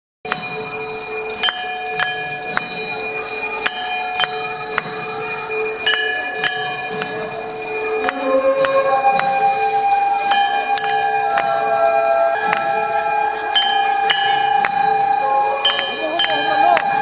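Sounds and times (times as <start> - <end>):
bell struck in quick groups: 0.3 - 17.0
bells ringing steadily: 0.3 - 17.0.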